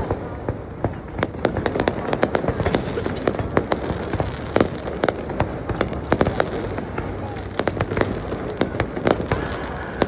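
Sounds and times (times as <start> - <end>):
continuous rumble: 0.0 - 10.0
firework cracks and bangs: 0.0 - 10.0.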